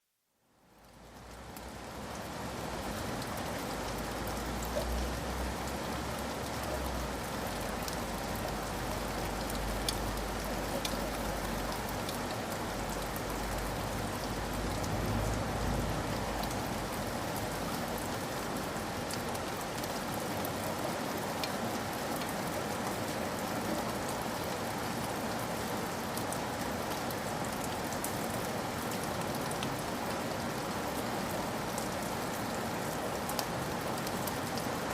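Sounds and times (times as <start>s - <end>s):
rain falling: 0.4s - 34.9s.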